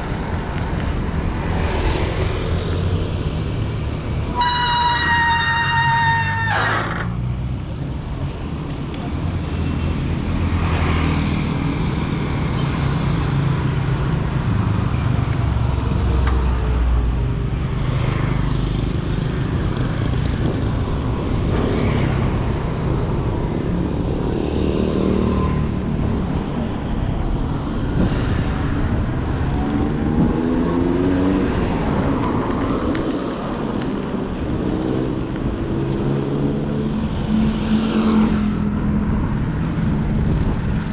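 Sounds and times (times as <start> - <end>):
road traffic rumble: 0.0 - 40.9
vehicles passing: 0.0 - 40.9.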